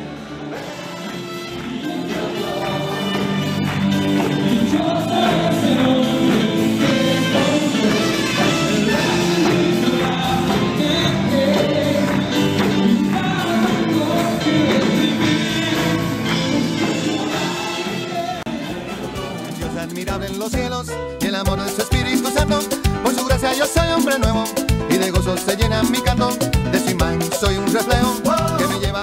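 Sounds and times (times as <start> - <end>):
group of singers: 0.0 - 20.4, 21.3 - 29.0
band playing gospel praise song: 0.0 - 29.0.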